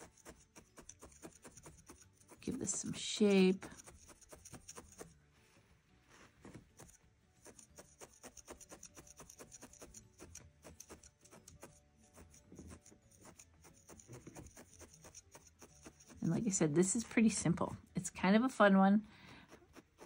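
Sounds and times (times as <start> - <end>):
felting needle stabbing wool: 0.0 - 5.2, 6.4 - 17.9, 19.3 - 20.0.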